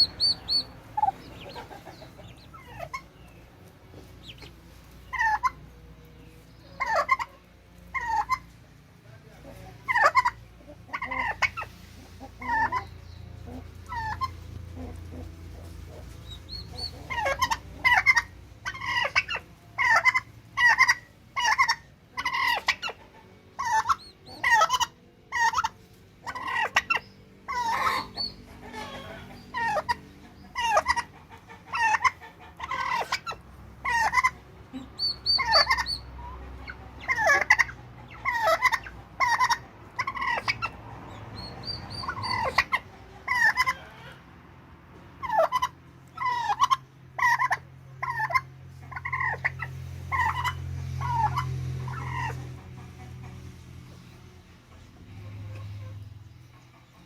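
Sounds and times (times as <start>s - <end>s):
turkeys calling: 0.0s - 8.7s, 9.4s - 44.2s, 45.0s - 57.0s.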